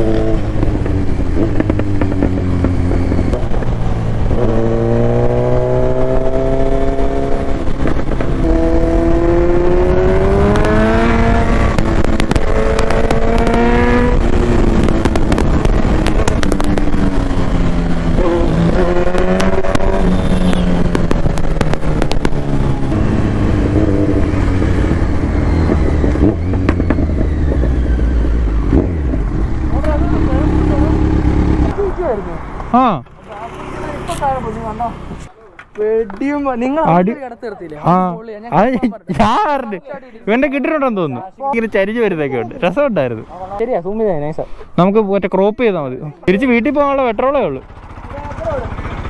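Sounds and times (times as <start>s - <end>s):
motorcycle engine accelerating: 0.0s - 37.2s, 45.6s - 49.0s.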